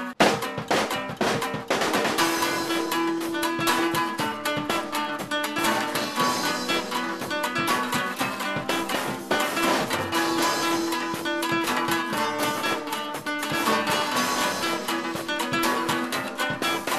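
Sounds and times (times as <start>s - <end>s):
guitar picked notes: 0.0s - 16.9s.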